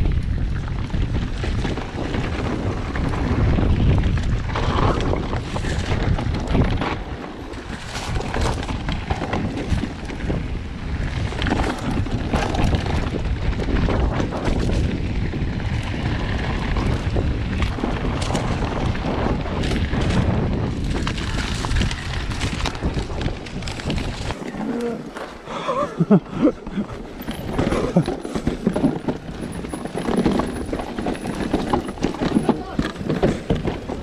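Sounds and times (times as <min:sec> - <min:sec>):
bike knocks and rattles: 0:00.0 - 0:34.0
bike tyre noise: 0:00.0 - 0:34.0
wind rumbling on microphone: 0:00.0 - 0:34.0.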